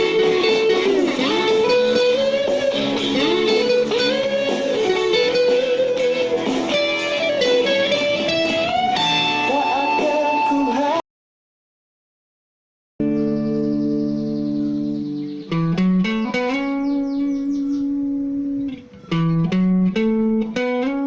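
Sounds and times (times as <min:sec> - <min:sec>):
guitar lead melody: 0:00.0 - 0:11.0, 0:13.0 - 0:21.0.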